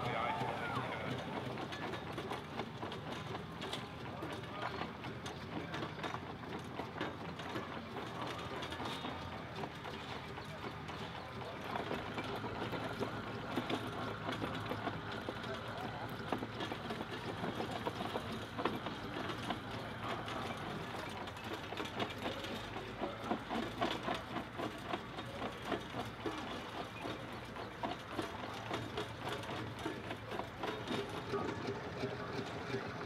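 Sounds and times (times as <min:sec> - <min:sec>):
steam engine running machinery: 0:00.0 - 0:33.0.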